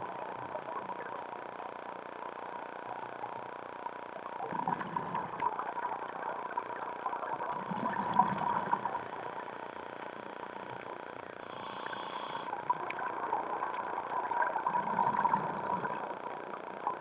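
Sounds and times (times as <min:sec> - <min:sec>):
regulator bubbles underwater: 0:00.0 - 0:17.0
steady underwater hiss: 0:00.0 - 0:17.0.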